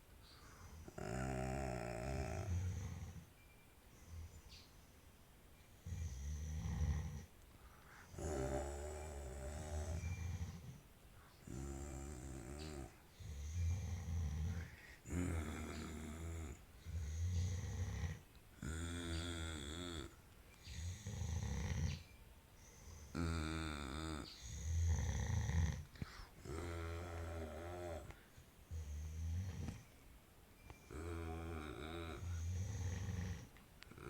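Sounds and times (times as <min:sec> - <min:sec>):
snoring rattling breaths: 0:00.7 - 0:03.3, 0:05.8 - 0:07.3, 0:07.9 - 0:22.1, 0:22.7 - 0:29.9, 0:30.8 - 0:34.0.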